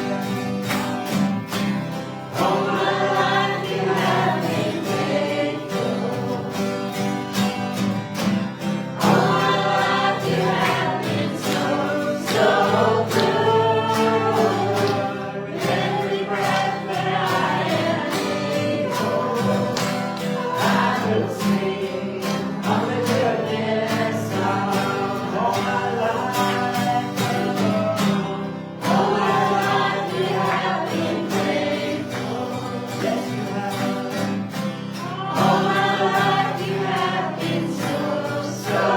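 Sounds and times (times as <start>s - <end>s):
congregation singing: 0.0s - 38.9s
guitar and band accompaniment: 0.0s - 38.9s.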